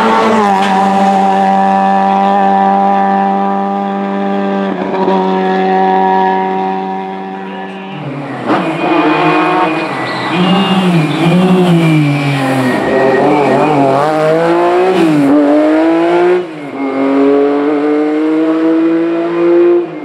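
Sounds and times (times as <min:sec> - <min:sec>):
car engine revving: 0:00.0 - 0:20.0
rally car engine at high revs: 0:00.0 - 0:20.0.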